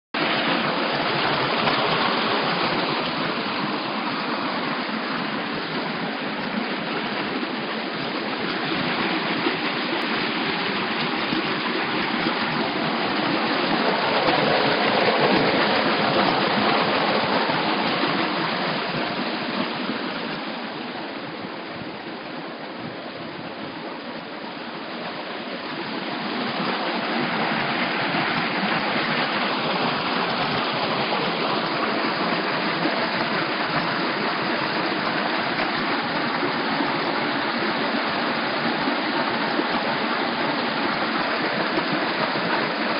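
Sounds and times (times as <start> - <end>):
stream rushing over rocks: 0.2 - 42.9.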